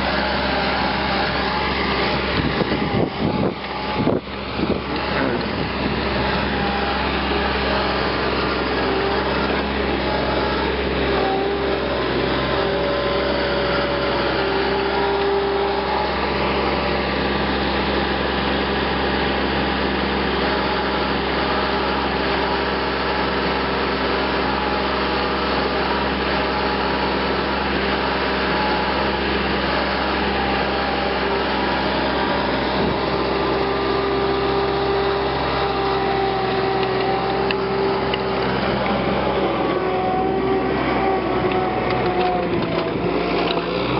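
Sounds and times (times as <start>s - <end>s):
power wire brush on steel rim: 0.0s - 43.9s.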